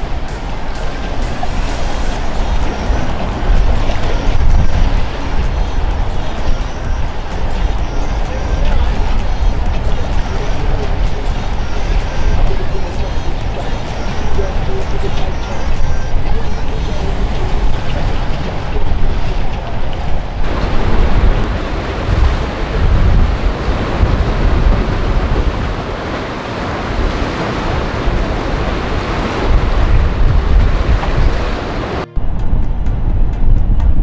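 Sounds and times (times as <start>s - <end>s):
waves breaking: 0.0s - 33.0s
boat engines rumbling: 0.0s - 33.6s
wind buffeting microphone: 0.0s - 34.0s.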